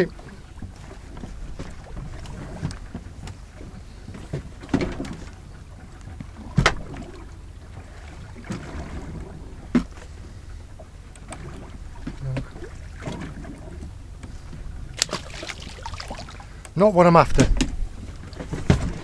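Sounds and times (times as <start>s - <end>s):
water noise around boat: 0.0s - 19.0s
wind rumbling on microphone: 0.0s - 19.0s.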